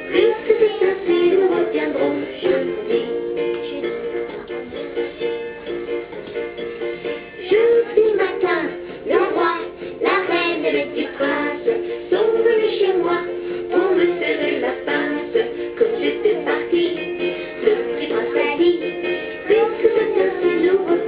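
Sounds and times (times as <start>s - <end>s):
person singing: 0.0s - 5.5s, 7.0s - 21.0s
ukulele playing: 0.0s - 21.0s.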